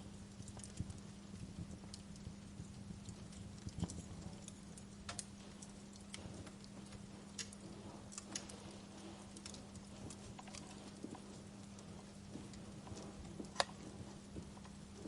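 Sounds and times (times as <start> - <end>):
steady low hum: 0.0 - 15.0
wood fire crackling and popping: 0.0 - 15.0.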